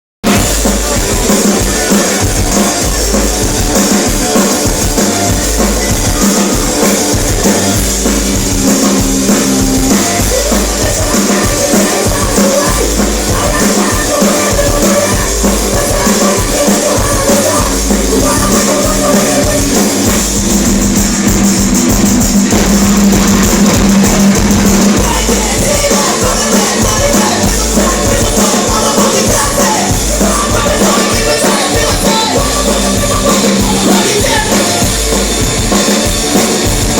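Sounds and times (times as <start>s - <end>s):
pounding drum kit: 0.2s - 36.9s
punk rock band playing: 0.2s - 36.9s.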